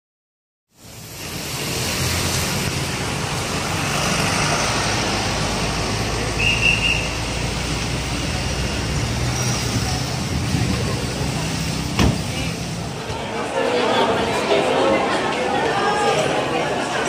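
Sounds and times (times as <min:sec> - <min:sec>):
road traffic passing: 0:00.7 - 0:17.0.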